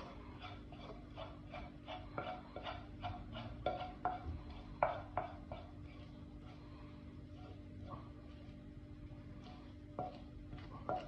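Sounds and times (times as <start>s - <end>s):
utensil scraping frying pan: 0.0s - 8.5s, 9.2s - 11.0s.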